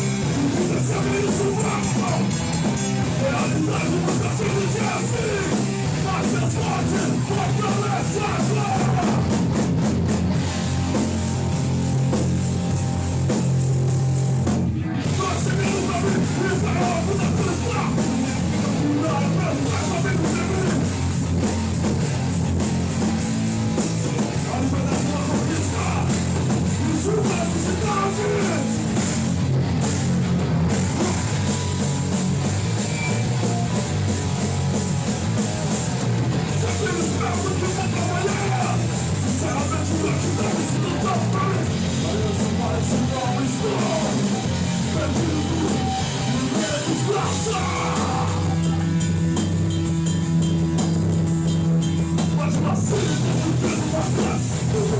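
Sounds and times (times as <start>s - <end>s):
punk band playing live: 0.0s - 54.9s.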